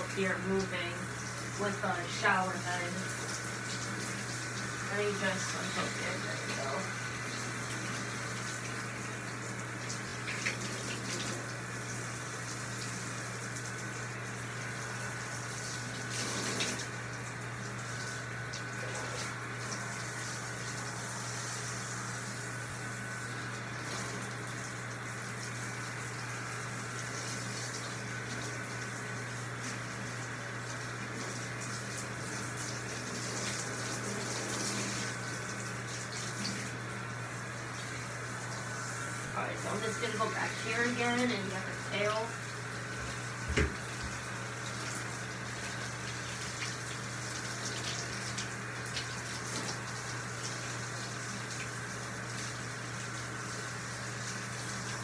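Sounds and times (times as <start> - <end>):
steady low hum: 0.0 - 48.4
shower head spraying water: 0.0 - 55.0.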